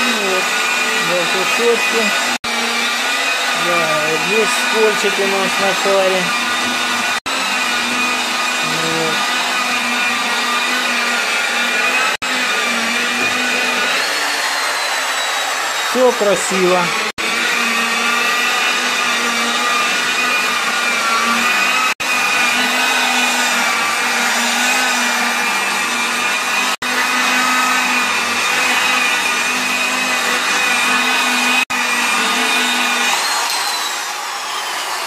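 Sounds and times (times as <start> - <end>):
electric car polisher running: 0.0 - 35.0.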